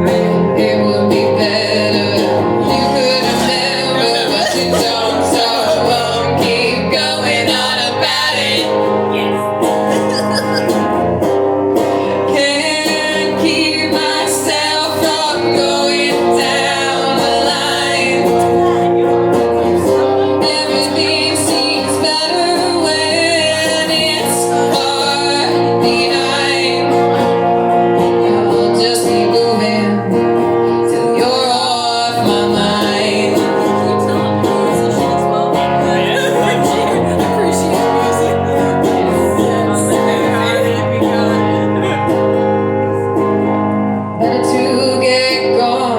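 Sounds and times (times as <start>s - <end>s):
person singing: 0.0s - 11.0s, 11.8s - 42.3s, 44.2s - 45.9s
guitar: 0.0s - 45.9s.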